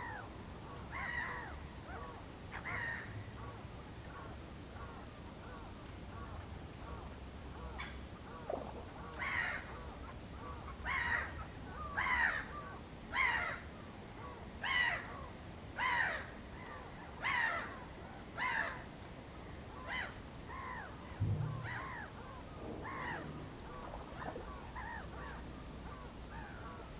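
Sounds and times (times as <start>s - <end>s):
faint background birdsong: 0.0s - 26.9s.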